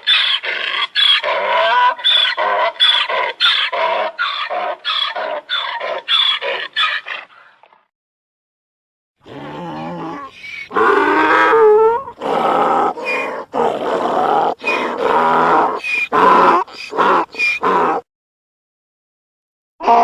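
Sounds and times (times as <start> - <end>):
donkey braying: 0.0 - 7.3, 9.3 - 18.0.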